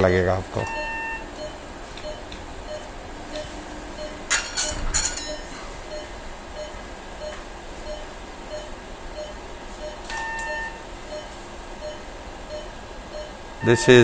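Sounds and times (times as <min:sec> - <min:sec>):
steady room hiss: 0:00.0 - 0:14.0
patient monitor beeping: 0:00.5 - 0:14.0
long loud monitor beep: 0:00.6 - 0:04.2, 0:05.3 - 0:14.0.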